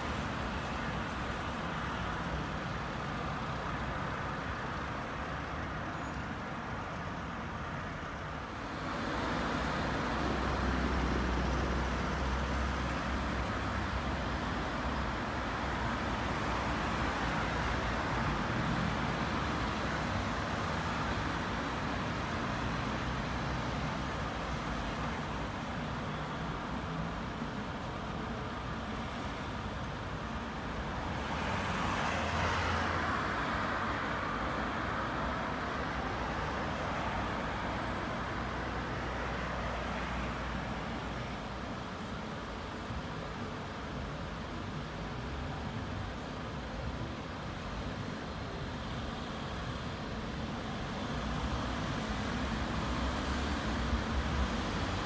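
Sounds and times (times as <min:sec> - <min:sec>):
city road traffic: 0:00.0 - 0:55.0.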